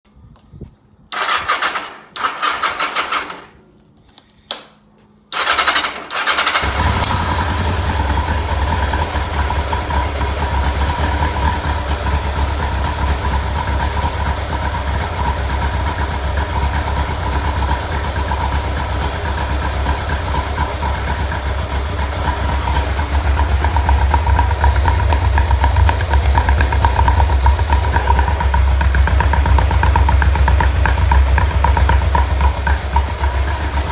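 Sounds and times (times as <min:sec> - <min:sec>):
engine cranking: 0:01.1 - 0:03.6, 0:05.3 - 0:33.9
engine idling roughly: 0:05.4 - 0:33.9.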